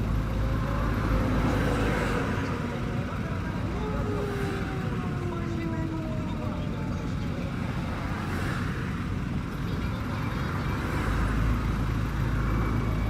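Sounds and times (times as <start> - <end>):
motor vehicle rumbling: 0.0 - 13.0
road noise: 0.0 - 13.0.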